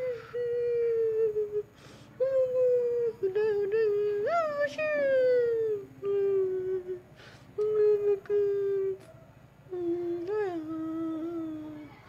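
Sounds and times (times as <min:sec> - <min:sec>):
person humming: 0:00.0 - 0:09.1, 0:09.7 - 0:11.9.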